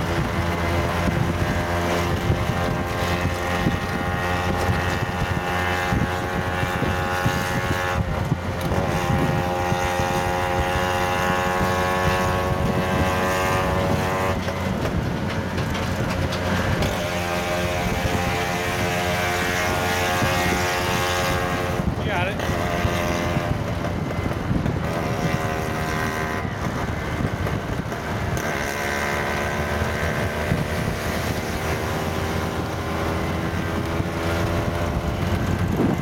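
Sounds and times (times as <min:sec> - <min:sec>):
road noise: 0:00.0 - 0:36.0
small engine droning: 0:00.0 - 0:36.0
wind: 0:00.0 - 0:36.0.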